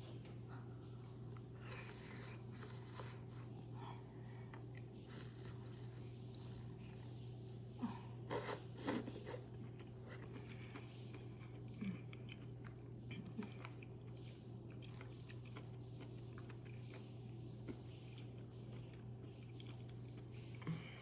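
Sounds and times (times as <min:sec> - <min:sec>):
person chewing food: 0:00.6 - 0:21.0.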